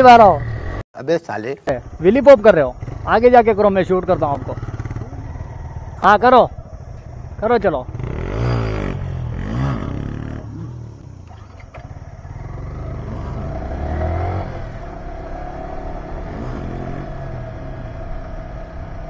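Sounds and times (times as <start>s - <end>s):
motorcycle engines revving: 0.0s - 0.8s, 1.7s - 19.0s.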